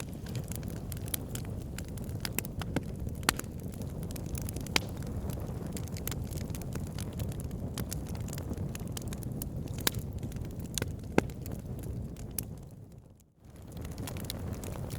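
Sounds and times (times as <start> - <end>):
fire crackling and popping: 0.0 - 14.9
low rumble of flames: 0.0 - 14.9.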